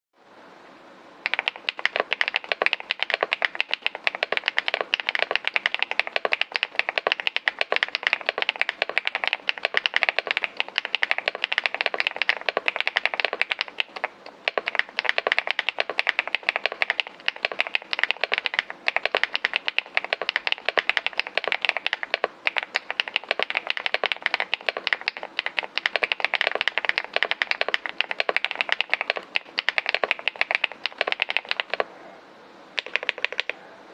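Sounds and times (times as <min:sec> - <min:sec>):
mechanical keyboard typing: 0:01.2 - 0:31.9, 0:32.8 - 0:33.6.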